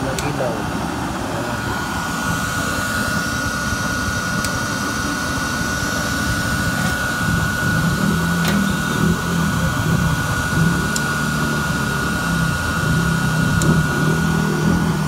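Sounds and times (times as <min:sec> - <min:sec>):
electric blower whirring: 0:00.0 - 0:15.0
low hum: 0:00.0 - 0:15.0.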